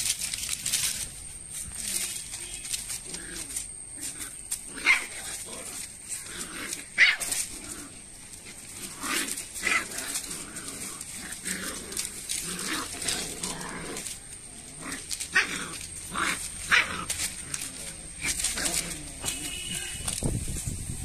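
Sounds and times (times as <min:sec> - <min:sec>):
puppies growling: 0:00.0 - 0:19.8
puppies yipping: 0:00.0 - 0:20.2
dry palm frond crackling: 0:00.0 - 0:21.0.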